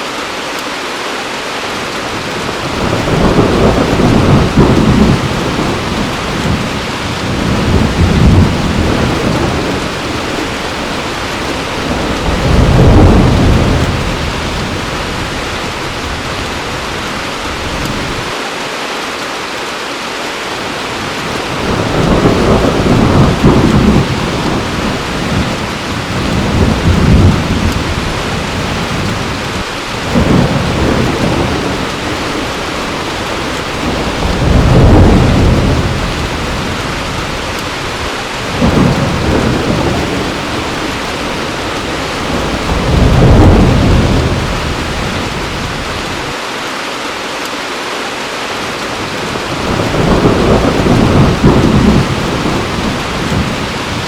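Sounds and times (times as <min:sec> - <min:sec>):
heavy rain falling: 0:00.0 - 0:54.0
thunder rumbling: 0:02.0 - 0:18.4, 0:21.0 - 0:46.4, 0:48.8 - 0:54.0.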